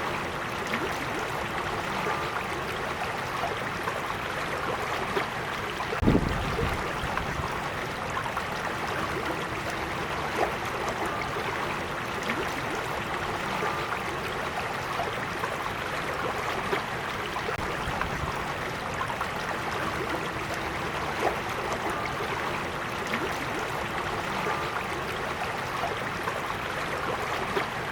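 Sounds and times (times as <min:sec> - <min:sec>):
creek flowing: 0:00.0 - 0:27.9
water splashes: 0:00.0 - 0:27.9.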